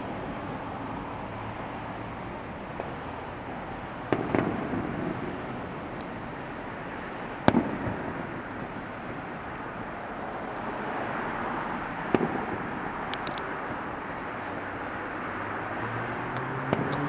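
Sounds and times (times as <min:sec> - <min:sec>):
distant fireworks bangs: 0:00.0 - 0:17.0.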